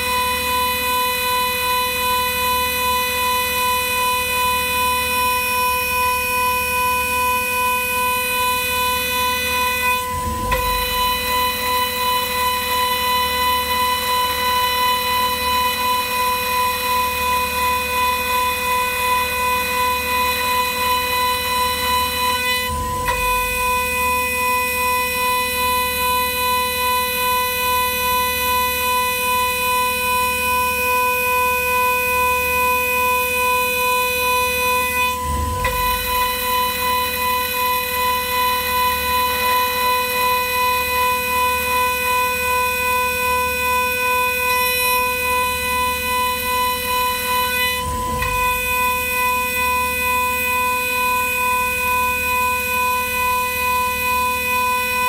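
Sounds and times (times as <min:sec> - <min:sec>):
milling machine high whine: 0:00.0 - 0:55.0.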